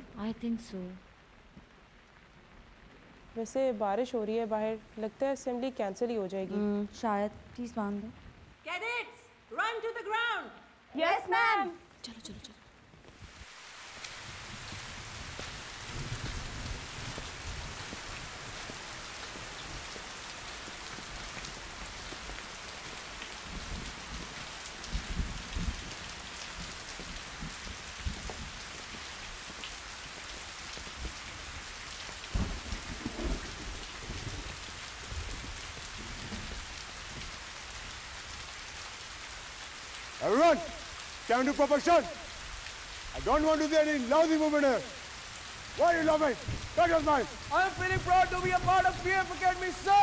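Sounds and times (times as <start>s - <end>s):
rain falling: 0.0s - 50.0s.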